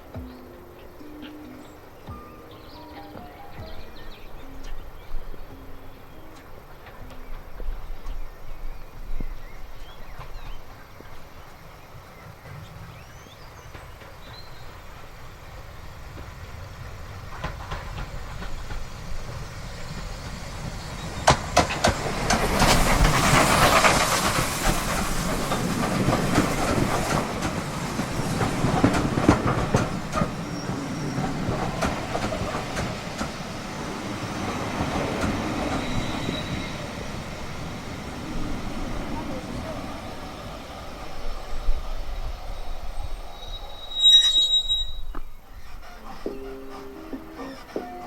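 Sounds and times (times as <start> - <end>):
train wheels clacking on rail joints: 0.0 - 42.2, 43.9 - 48.0
train carriages rumbling past: 0.0 - 48.0.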